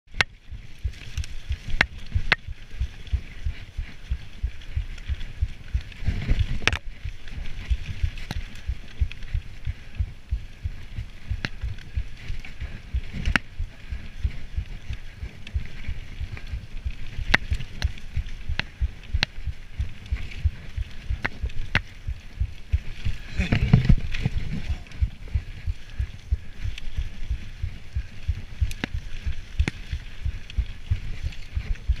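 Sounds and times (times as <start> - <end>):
bike rattling and thudding: 0.1 - 32.0.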